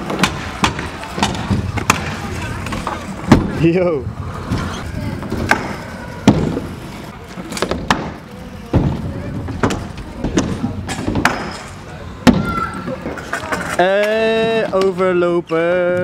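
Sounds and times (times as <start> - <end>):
wheels rolling on concrete: 0.0 - 16.0.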